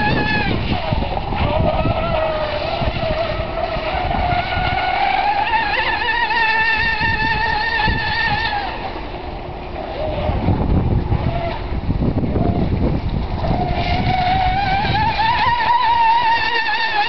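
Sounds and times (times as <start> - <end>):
electric boat motor whine: 0.0 - 17.0
low rumbling noise: 0.0 - 17.0.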